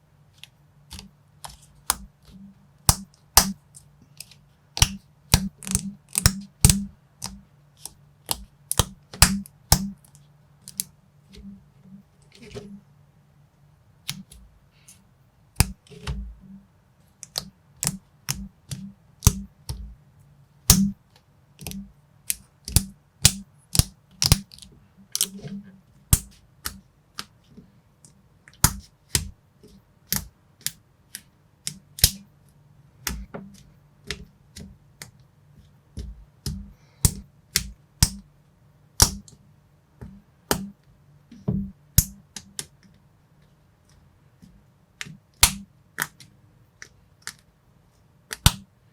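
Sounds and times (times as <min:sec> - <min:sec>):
faint low hum: 0:00.0 - 0:48.9.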